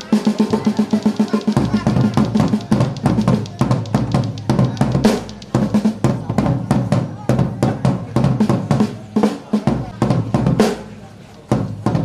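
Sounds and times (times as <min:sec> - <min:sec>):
drums playing a fast beat: 0:00.0 - 0:12.0.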